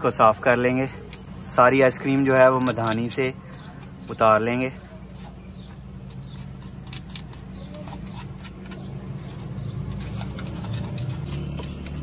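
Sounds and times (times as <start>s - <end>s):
high insect-like chirr: 0.0s - 12.0s
steady low hum: 0.0s - 12.0s.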